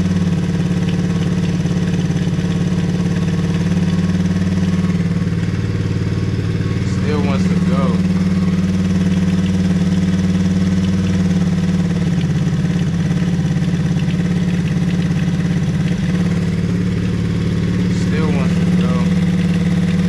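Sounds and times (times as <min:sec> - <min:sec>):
small engine fast idle: 0:00.0 - 0:20.0.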